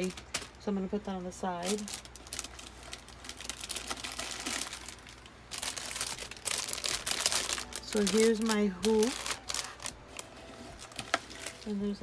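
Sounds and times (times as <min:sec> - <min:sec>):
packaging crinkling: 0:00.0 - 0:00.6, 0:01.6 - 0:12.0.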